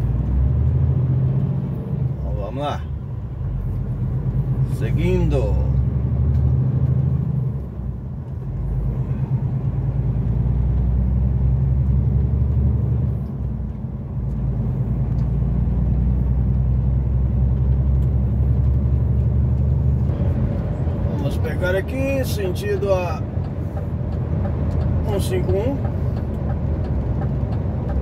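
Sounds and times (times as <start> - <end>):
road noise: 0.0 - 28.0
truck diesel engine rumble: 0.0 - 28.0.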